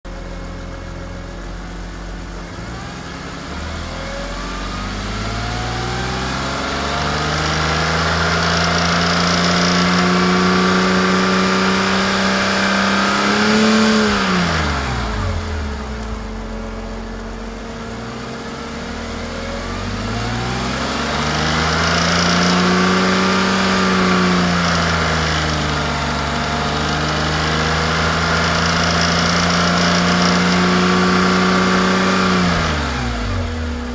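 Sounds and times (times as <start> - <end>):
car engine idling and revving: 0.0 - 33.9
engine clatter: 0.0 - 33.9.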